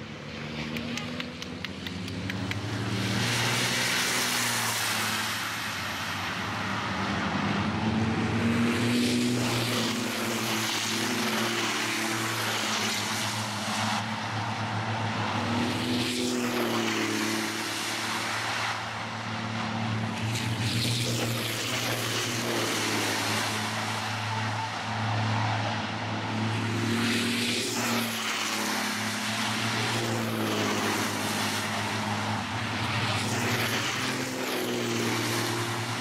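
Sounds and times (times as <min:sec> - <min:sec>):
racing trucks passing at speed: 0:00.0 - 0:36.0.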